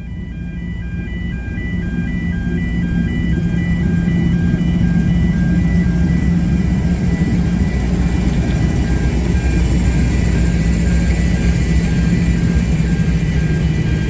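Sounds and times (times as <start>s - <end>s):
diesel train engine drone: 0.0s - 14.0s
high electronic beeping: 0.4s - 14.0s.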